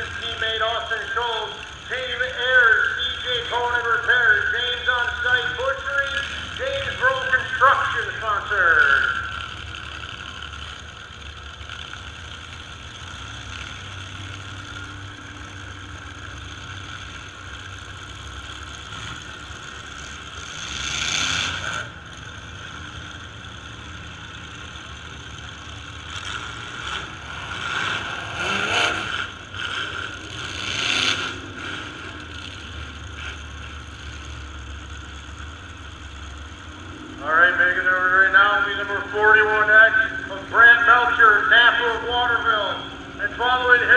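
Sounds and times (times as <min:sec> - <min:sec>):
truck engines revving: 0:00.0 - 0:43.9.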